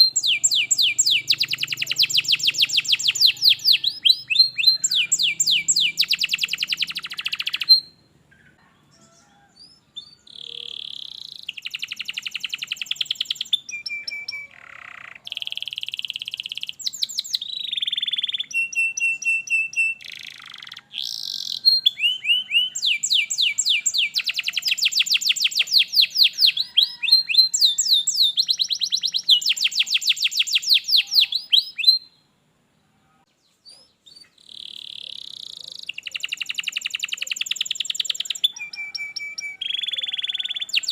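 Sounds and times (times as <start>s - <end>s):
canary singing in trills: 0.0s - 40.9s.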